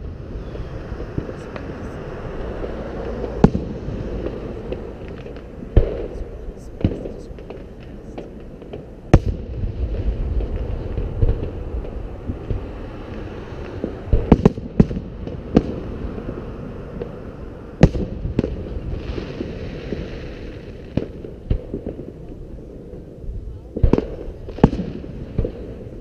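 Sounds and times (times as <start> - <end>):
fireworks bursting with sharp bangs: 0.0 - 26.0
low rumble: 0.0 - 26.0.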